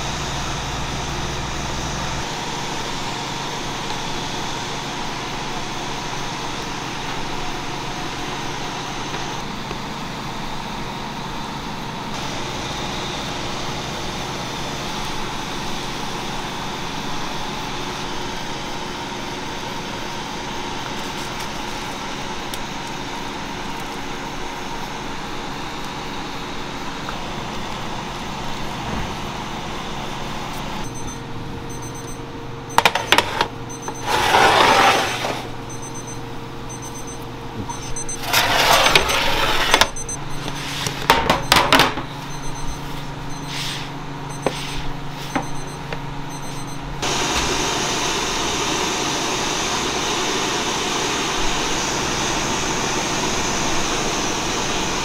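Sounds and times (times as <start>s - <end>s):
ventilation hum: 0.0s - 55.0s.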